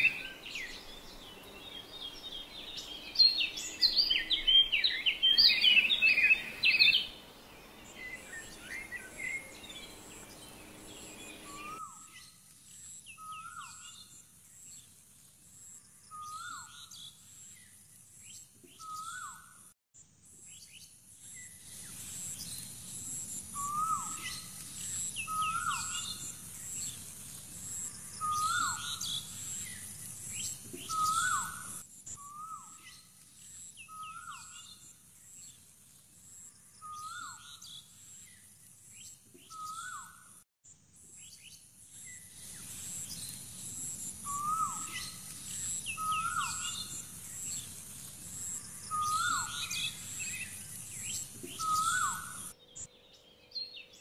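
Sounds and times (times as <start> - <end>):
birds twittering: 0.0 - 14.8, 15.8 - 19.6, 21.3 - 35.6, 36.6 - 40.3, 41.3 - 54.0.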